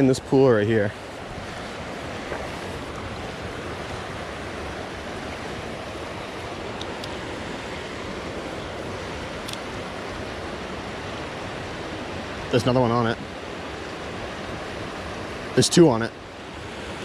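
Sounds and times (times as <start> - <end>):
river water rushing over falls: 0.0 - 17.0.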